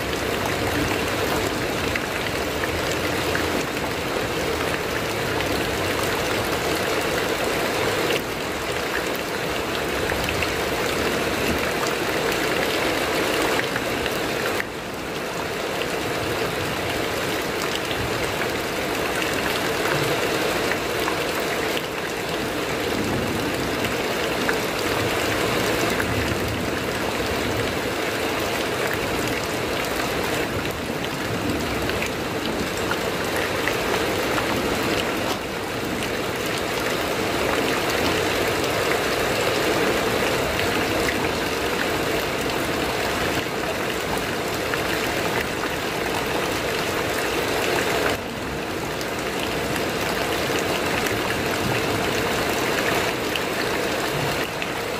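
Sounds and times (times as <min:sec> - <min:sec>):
heavy rain on a metal roof: 0:00.0 - 0:54.9.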